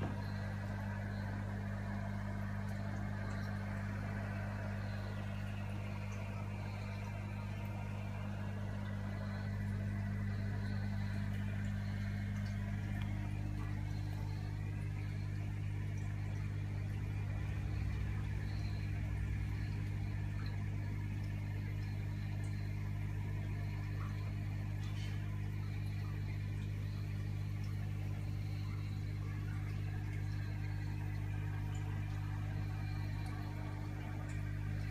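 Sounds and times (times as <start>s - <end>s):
aquarium equipment humming: 0.0s - 34.9s.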